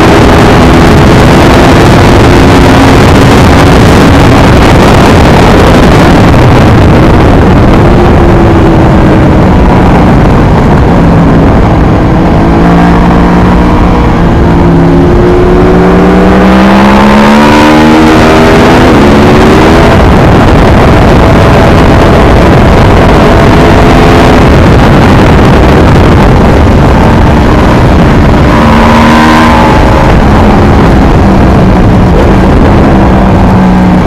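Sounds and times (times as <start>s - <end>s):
loud wind rush: 0.0s - 34.0s
motorcycle engine accelerating: 0.0s - 34.0s.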